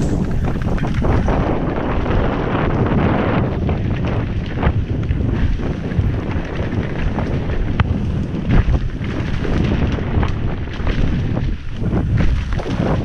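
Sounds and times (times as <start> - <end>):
bike knocks and clatters: 0.0 - 13.0
tyres rushing on dirt trail: 0.0 - 13.0
wind buffeting microphone: 0.0 - 13.0.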